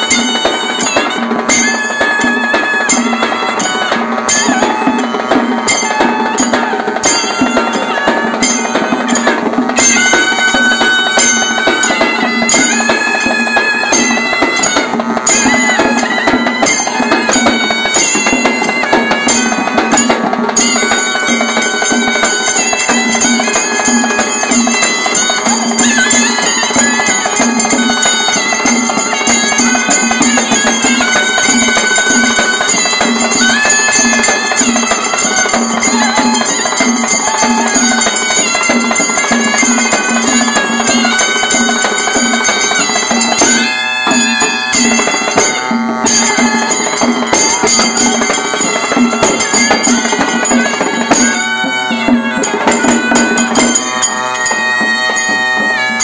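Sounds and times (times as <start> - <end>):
frame drums beating: 0.0 - 56.0
hand cymbals: 0.0 - 56.0.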